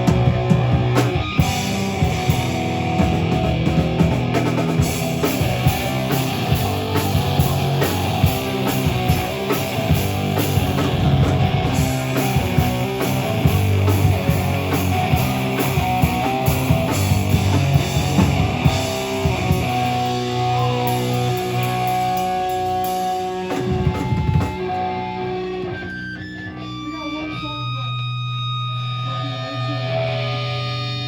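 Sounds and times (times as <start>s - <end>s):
heavy rock band playing: 0.0s - 31.0s.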